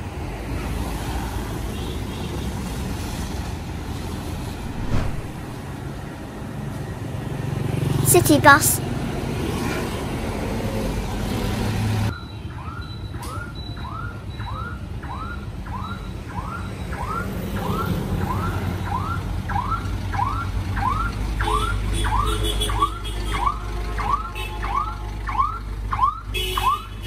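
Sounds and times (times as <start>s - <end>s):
street traffic: 0.0s - 27.0s.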